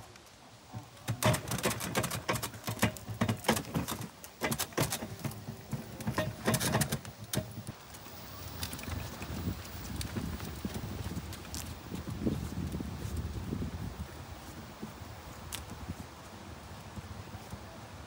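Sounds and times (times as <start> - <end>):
wagon rolling rumble: 0.6 - 18.0
wagon load knocking and rattling: 0.7 - 18.0.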